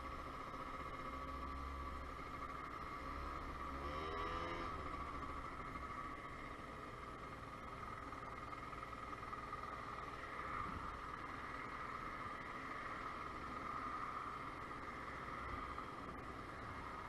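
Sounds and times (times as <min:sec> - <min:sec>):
scooter engine droning: 0:00.0 - 0:17.0.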